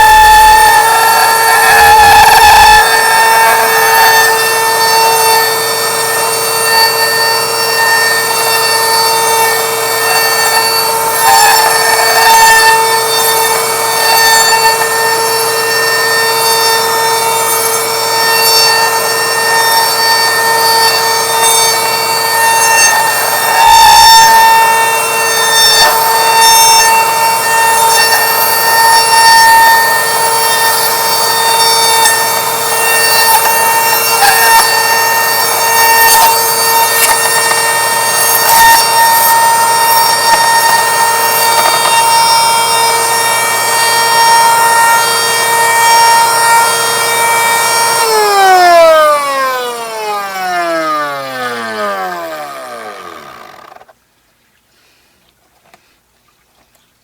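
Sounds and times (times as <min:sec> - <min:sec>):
router bit cutting wood: 0:00.0 - 0:54.0
router whining: 0:00.0 - 0:54.1.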